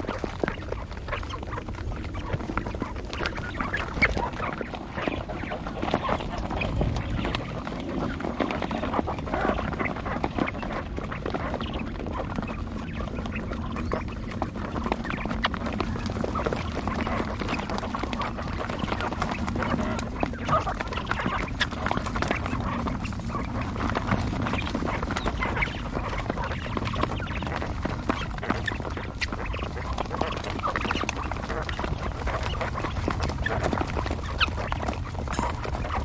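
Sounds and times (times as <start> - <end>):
quail calling: 0.0 - 36.0.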